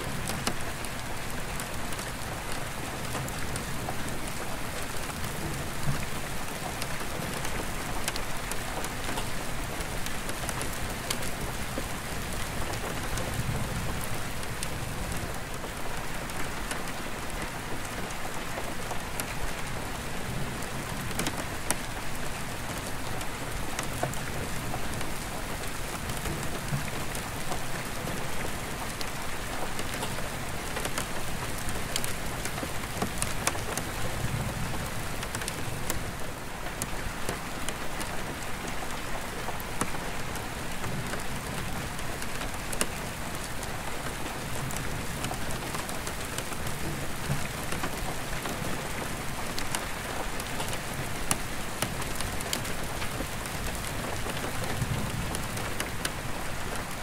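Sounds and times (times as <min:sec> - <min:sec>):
rain on a skylight: 0:00.0 - 0:57.0.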